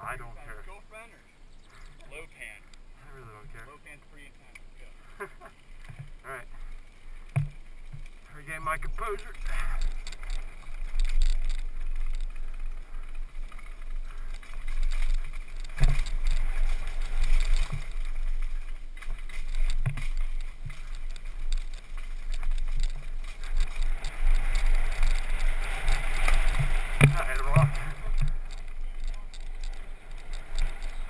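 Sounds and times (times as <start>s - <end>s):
bike tyre riding noise: 0.0s - 31.0s
bike knocking on bumps: 5.8s - 31.0s.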